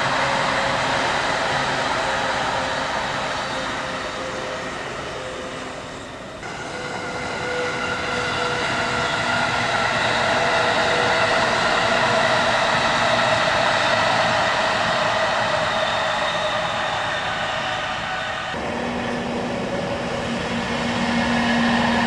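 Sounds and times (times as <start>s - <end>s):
electric train passing: 0.0s - 22.0s
high-pitched whining tones: 0.0s - 22.0s.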